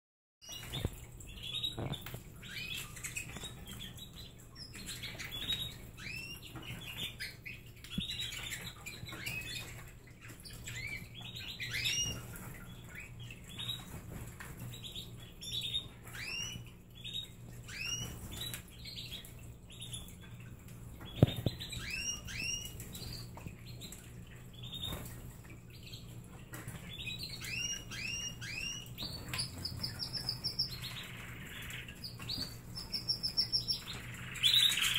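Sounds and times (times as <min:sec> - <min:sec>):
canaries chirping: 0:00.4 - 0:34.9.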